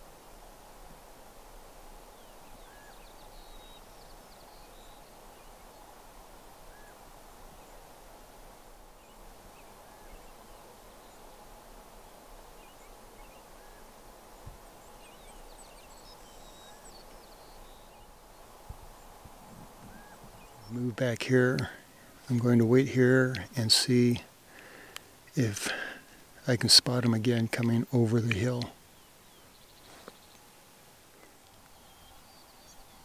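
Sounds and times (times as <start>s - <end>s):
small birds chirping: 1.8s - 33.0s.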